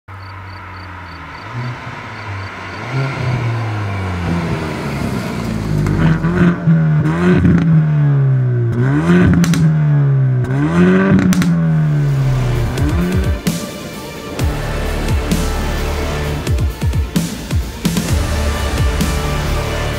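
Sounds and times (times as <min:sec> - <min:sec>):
car engine idling and revving: 0:00.1 - 0:19.9
exhaust crackles: 0:00.3 - 0:19.9.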